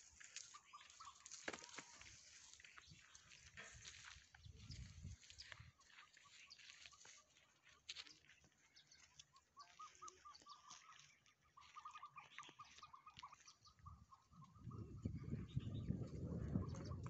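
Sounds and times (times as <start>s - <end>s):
faint bird chirping: 0.1s - 17.0s.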